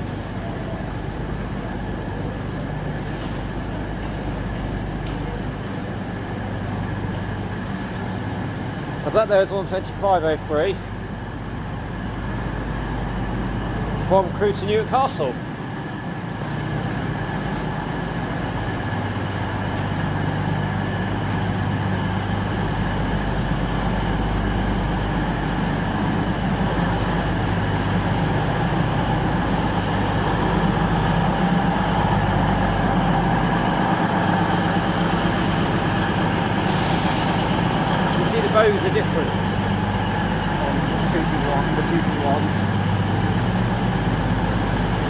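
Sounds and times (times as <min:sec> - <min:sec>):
diesel train engines humming: 0:00.0 - 0:45.0.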